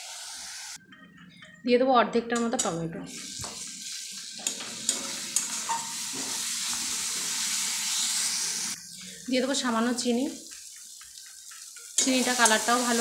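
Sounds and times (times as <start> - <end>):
food sizzling in hot oil: 0.0 - 0.8, 3.1 - 13.0.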